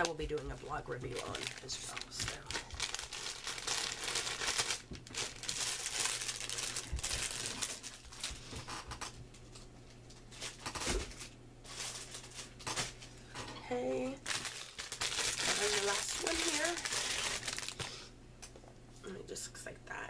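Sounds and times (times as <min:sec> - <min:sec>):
packaging crinkling and rustling: 0:00.0 - 0:13.2, 0:14.0 - 0:18.0.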